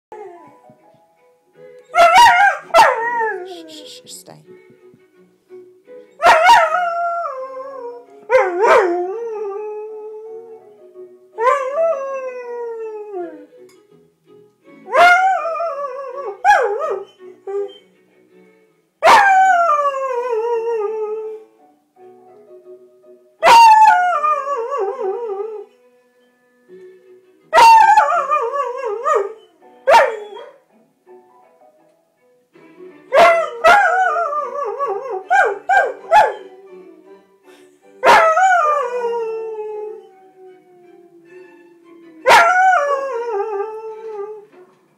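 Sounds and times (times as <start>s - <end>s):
television theme music: 0.2s - 44.9s.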